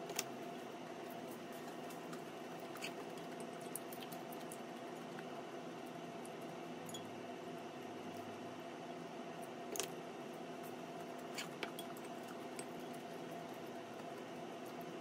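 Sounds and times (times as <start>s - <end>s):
steady room hum: 0.0s - 15.0s.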